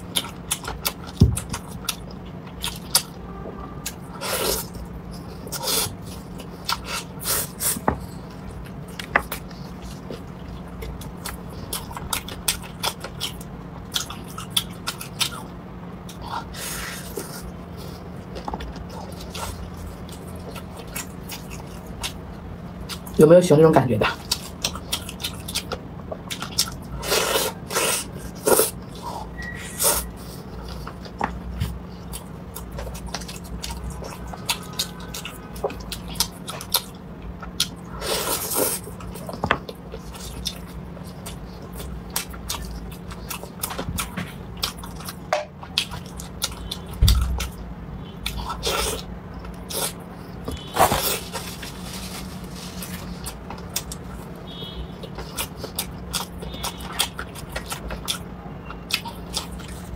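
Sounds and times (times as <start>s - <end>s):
chewing: 0.0s - 3.2s, 8.1s - 23.2s, 24.1s - 47.6s, 48.2s - 59.9s.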